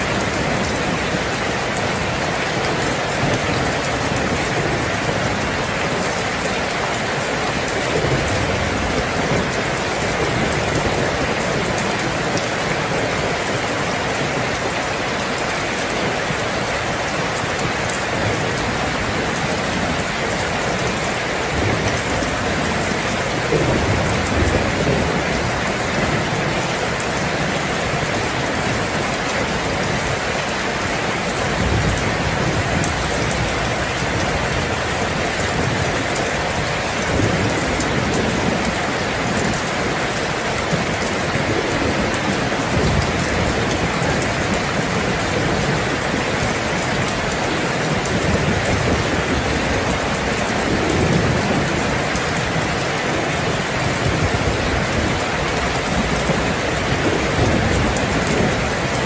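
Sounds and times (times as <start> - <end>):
heavy rain: 0.0 - 59.0
low thunder rumbles: 0.0 - 59.0.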